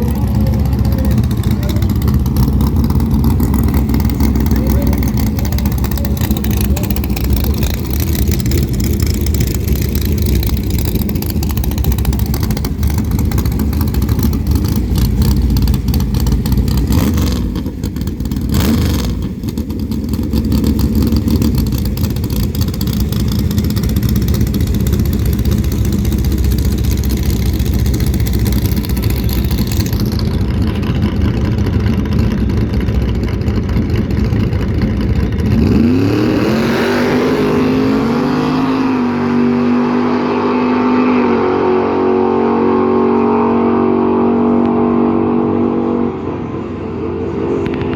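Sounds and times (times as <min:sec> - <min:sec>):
engine running hard: 0:00.0 - 0:47.9.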